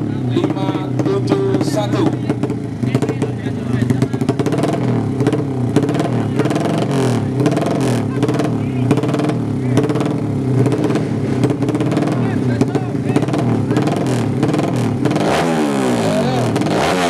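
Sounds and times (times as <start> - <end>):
motorcycles revving: 0.0 - 17.0.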